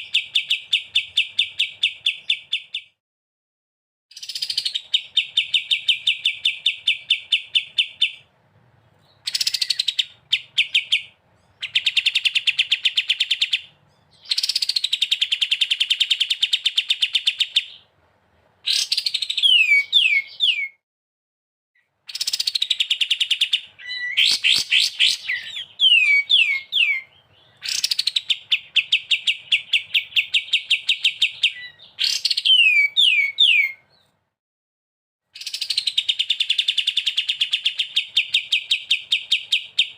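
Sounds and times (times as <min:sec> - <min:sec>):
songbird trilling: 0:00.0 - 0:03.0, 0:04.1 - 0:08.2, 0:09.1 - 0:17.9, 0:18.6 - 0:20.8, 0:22.1 - 0:34.0, 0:35.4 - 0:39.9.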